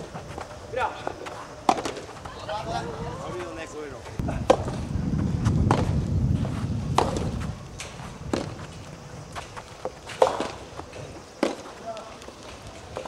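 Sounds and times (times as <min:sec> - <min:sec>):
tennis balls struck by rackets: 0:00.0 - 0:02.5, 0:04.2 - 0:04.8, 0:05.4 - 0:13.0.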